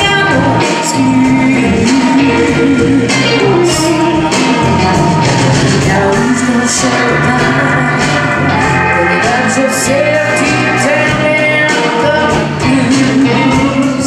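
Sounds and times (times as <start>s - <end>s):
bass guitar: 0.0s - 14.0s
drums with cymbal strokes: 0.0s - 14.0s
electric guitar: 0.0s - 14.0s
keyboard: 0.0s - 14.0s
woman singing: 0.0s - 14.0s.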